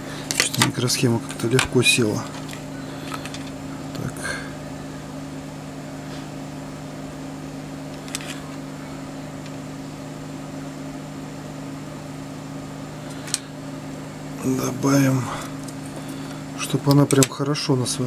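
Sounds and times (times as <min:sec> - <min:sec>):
low hum of equipment: 0:00.0 - 0:18.0.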